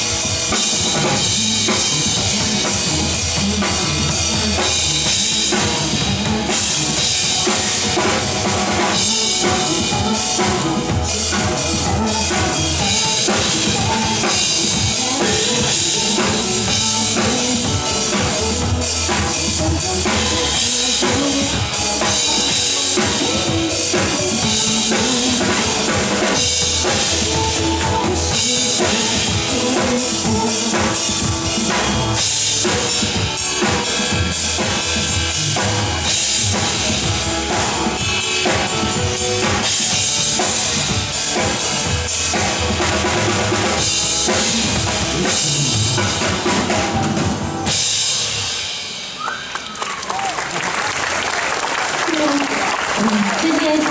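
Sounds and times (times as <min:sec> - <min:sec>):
pop backing track: 0:00.0 - 0:50.3
drum kit playing: 0:00.0 - 0:53.9.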